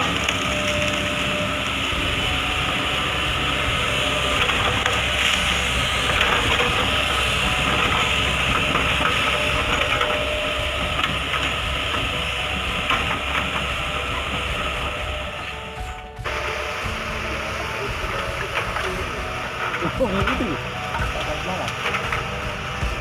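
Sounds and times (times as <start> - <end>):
diesel engine running: 0.0 - 23.0
metallic clicks and clanks: 0.0 - 23.0.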